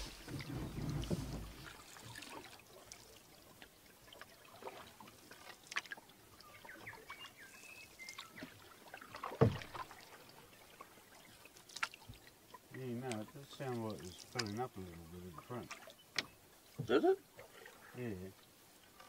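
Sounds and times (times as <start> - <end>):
small splashes: 0.0 - 18.0
paddle strokes in water: 0.0 - 19.0
water trickling off paddle: 0.0 - 19.0.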